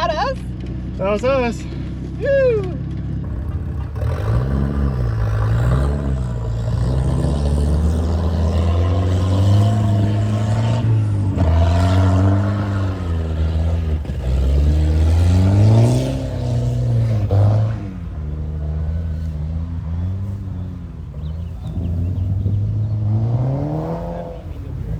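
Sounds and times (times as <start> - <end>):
car engine revving: 2.9 - 24.9.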